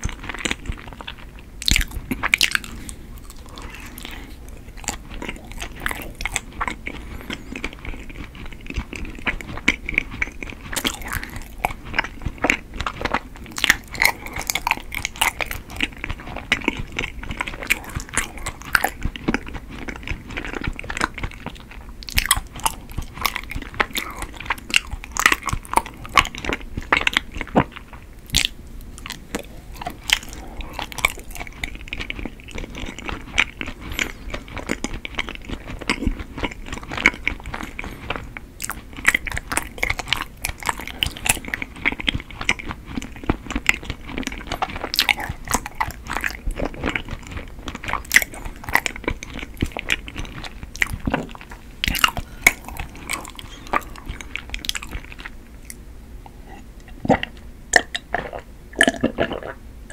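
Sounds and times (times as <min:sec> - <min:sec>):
biting and chewing: 0:00.0 - 0:59.6.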